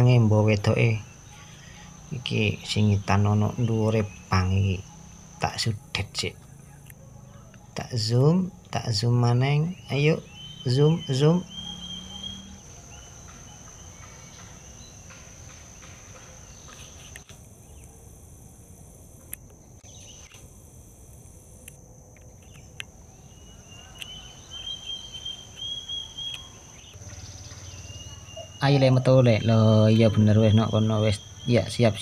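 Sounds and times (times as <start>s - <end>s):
insects trilling high-pitched: 0.0s - 32.0s
lower wavering insect trill: 0.0s - 32.0s.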